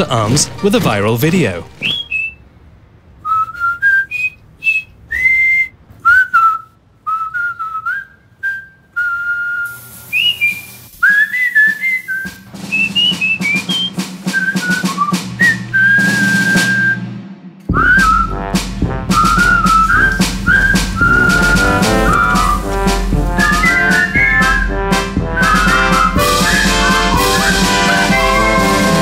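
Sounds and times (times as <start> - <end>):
person whistling a tune: 1.8 - 2.4, 3.2 - 17.1, 17.7 - 18.5, 19.1 - 29.0.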